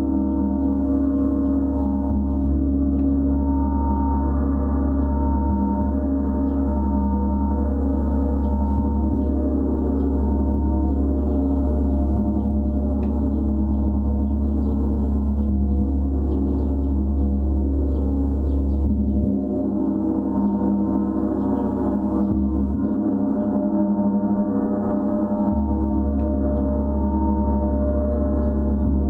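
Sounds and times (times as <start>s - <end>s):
gong played continuously: 0.0s - 29.0s.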